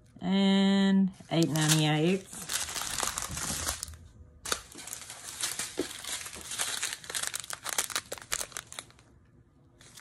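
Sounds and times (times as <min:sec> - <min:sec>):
plastic bags crinkling: 0:01.2 - 0:09.2, 0:09.8 - 0:10.0.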